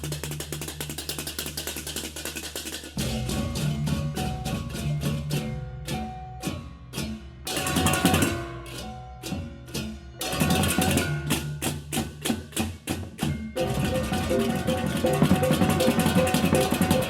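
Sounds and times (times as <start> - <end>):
drums: 0.0 - 17.0
metallic cymbal strikes: 2.8 - 17.0.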